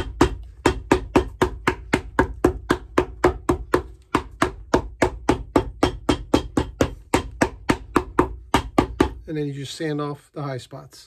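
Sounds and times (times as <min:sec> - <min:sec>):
hammer rapidly tapping: 0:00.0 - 0:09.3.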